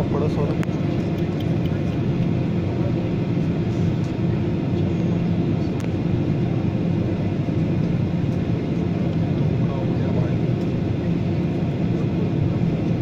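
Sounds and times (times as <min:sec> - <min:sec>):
airliner engines droning: 0:00.0 - 0:13.0.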